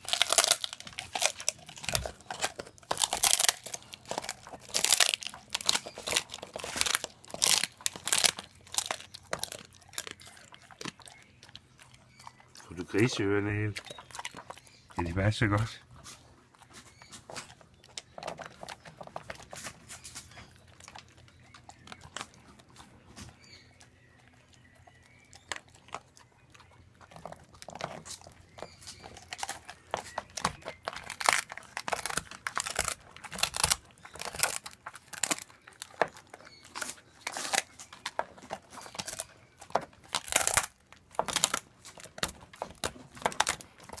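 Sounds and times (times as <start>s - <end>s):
dog chewing and crunching: 0.0s - 44.0s.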